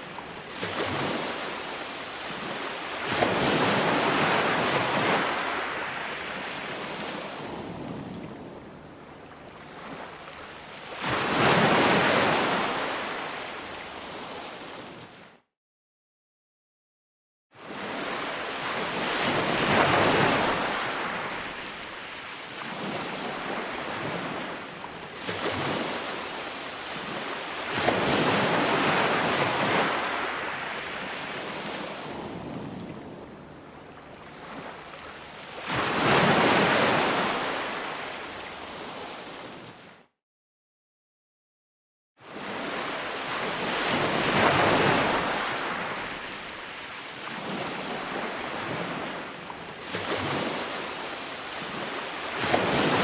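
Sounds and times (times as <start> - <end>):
ocean waves breaking on shore: 0.0 - 15.4, 17.6 - 40.1, 42.2 - 53.0.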